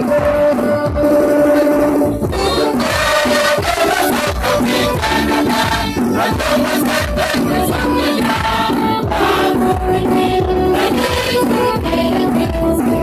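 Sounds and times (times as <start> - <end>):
percussion beat: 0.0 - 13.0
choir singing: 1.5 - 13.0.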